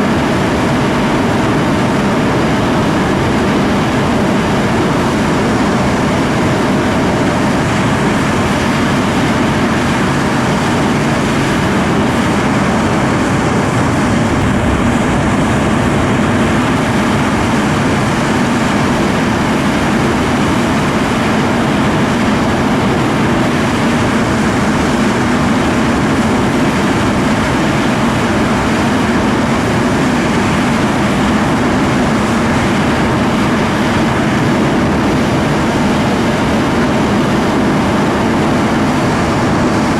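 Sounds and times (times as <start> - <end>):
jet engines running at high power: 0.0 - 39.9.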